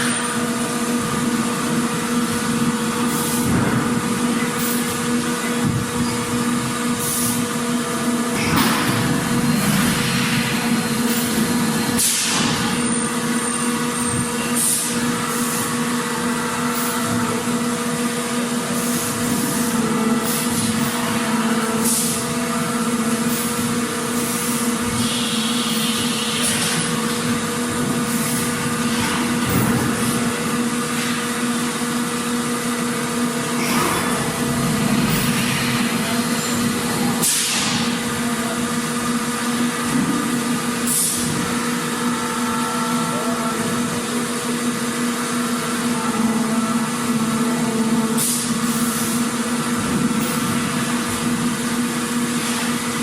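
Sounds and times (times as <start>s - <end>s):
factory machinery hum: 0.0s - 53.0s.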